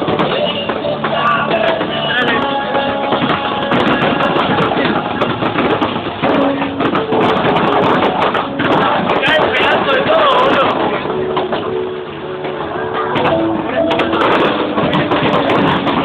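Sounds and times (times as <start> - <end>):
crowd voices: 0.0 - 16.0
music: 0.0 - 16.0.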